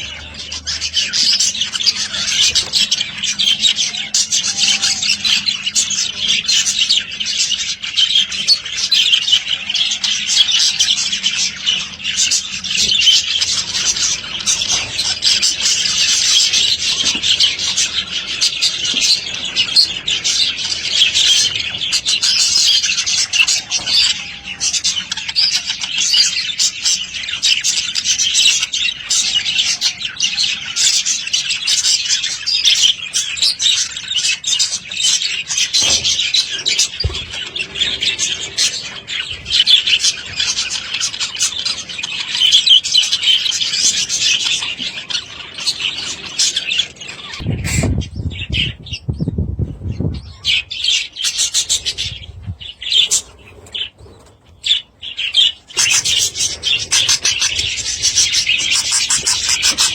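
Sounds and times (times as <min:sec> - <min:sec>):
budgerigars chattering: 0:00.0 - 0:49.1, 0:50.2 - 0:59.9.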